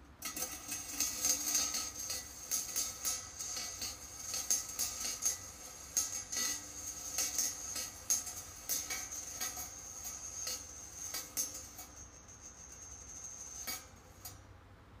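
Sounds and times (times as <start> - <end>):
thin high steady tone: 0.0 - 14.4
steel balls rattling on wire: 0.1 - 14.4.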